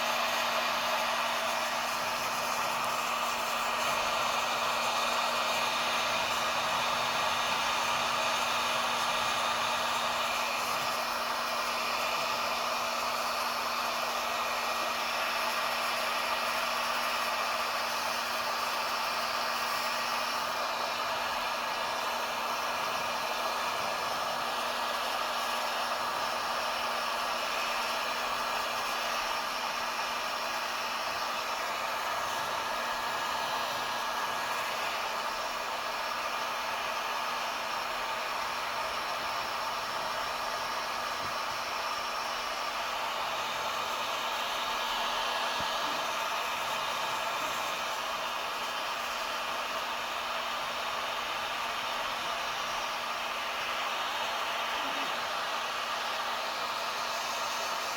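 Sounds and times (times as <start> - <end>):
heat gun fan blowing: 0.0 - 57.9.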